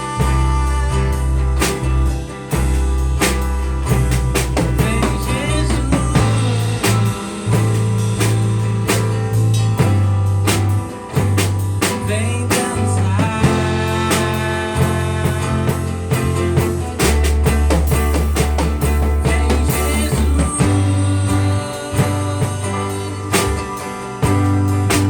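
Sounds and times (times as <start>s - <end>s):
drum kit steady beat: 0.0s - 25.0s
held bass notes: 0.0s - 25.0s.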